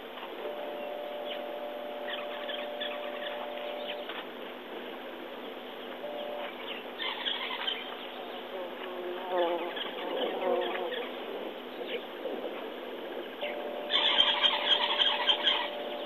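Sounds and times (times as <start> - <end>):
insects buzzing: 0.0 - 16.0
warbling bird calls: 0.5 - 4.2, 5.4 - 8.7, 9.4 - 16.0.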